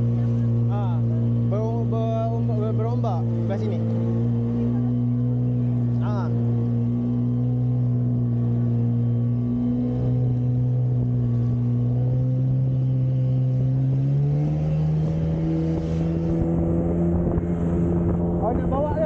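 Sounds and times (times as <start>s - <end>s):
jet ski engine droning: 0.0s - 19.0s.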